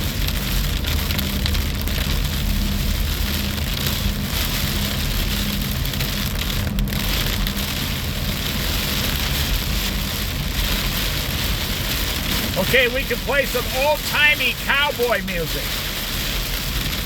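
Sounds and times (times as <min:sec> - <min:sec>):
car engine and tyres rumble: 0:00.0 - 0:17.0
rain hissing on car: 0:00.0 - 0:17.0.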